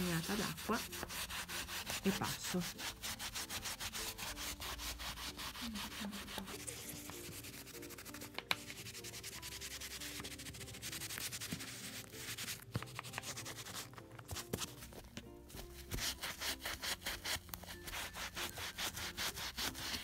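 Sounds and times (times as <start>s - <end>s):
sponge scrubbing leather: 0.0s - 14.8s, 15.5s - 20.0s.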